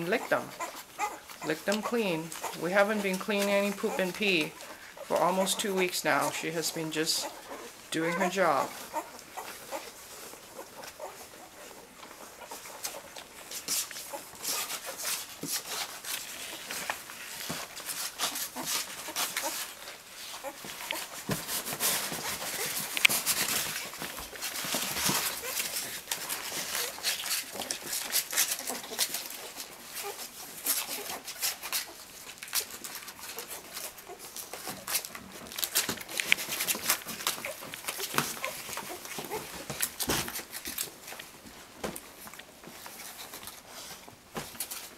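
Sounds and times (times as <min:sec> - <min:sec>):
dogs licking and nursing: 0:00.0 - 0:44.9
small rustles: 0:00.0 - 0:44.9.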